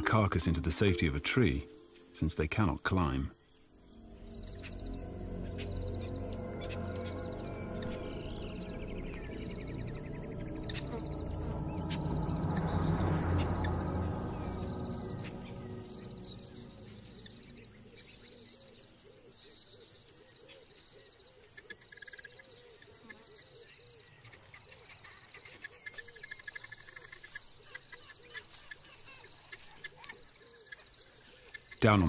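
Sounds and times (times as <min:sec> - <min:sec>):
bird calls: 0:00.0 - 0:32.0
high insect trills: 0:00.0 - 0:32.0.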